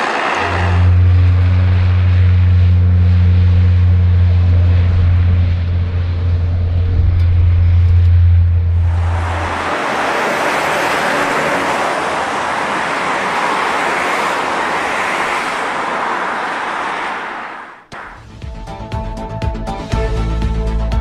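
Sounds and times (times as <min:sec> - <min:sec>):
turboprop aircraft engines roaring: 0:00.0 - 0:20.9.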